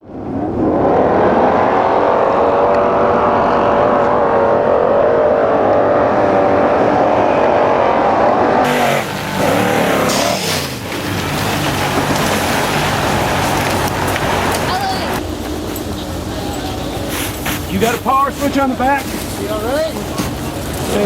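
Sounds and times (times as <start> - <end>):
truck engine running hard: 1.4 - 21.0.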